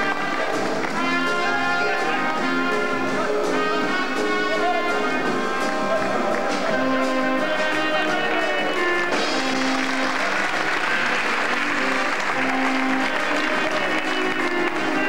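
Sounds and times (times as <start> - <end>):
band music with held notes: 0.0 - 15.0.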